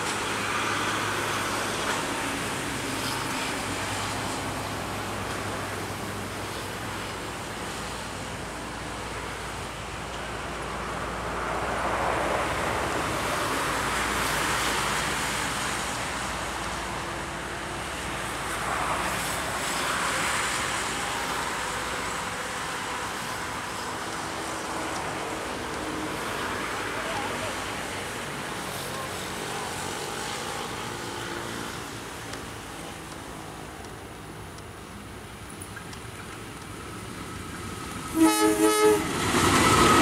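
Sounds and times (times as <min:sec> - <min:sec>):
diesel locomotive engine: 0:00.0 - 0:40.0
train wheels on rails: 0:00.0 - 0:40.0.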